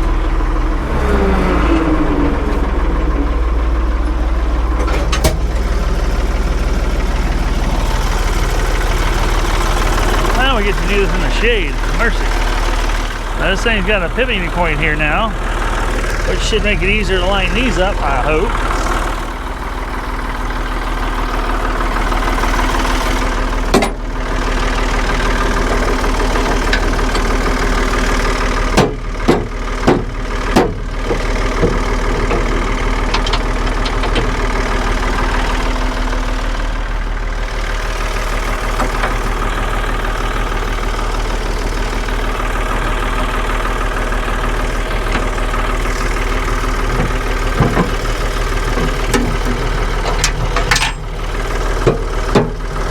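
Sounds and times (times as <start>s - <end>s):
tractor engine idling: 0.0s - 52.9s.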